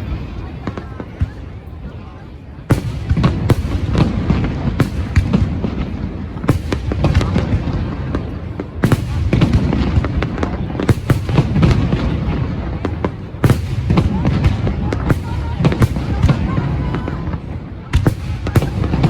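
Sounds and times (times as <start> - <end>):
fireworks crackling and booming: 0.0 - 19.0
sharp firework bangs: 2.7 - 19.0.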